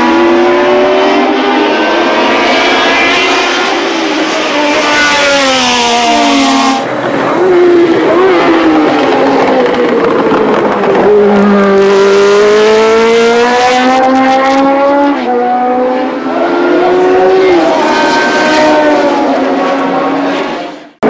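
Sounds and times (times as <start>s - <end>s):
racing car engine at high revs: 0.0s - 21.0s.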